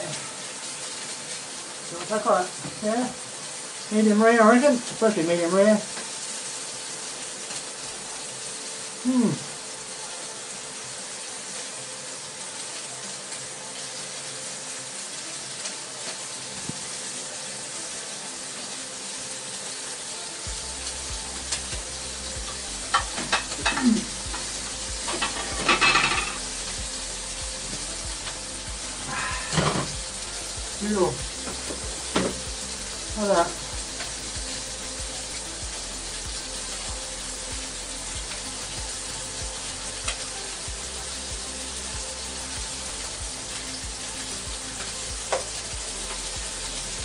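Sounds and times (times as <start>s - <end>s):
meat sizzling in a wok: 0.0s - 47.0s.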